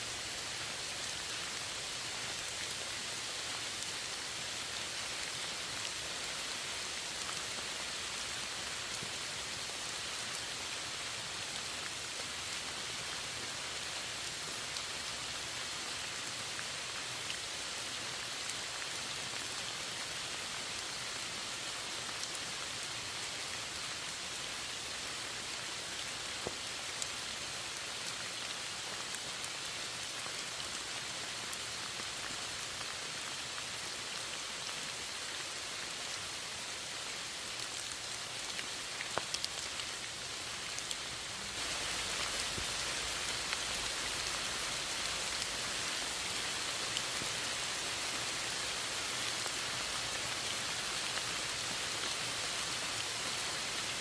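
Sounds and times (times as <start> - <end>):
steady rain falling: 0.0 - 54.0
sharp ticks of raindrops: 0.1 - 54.0.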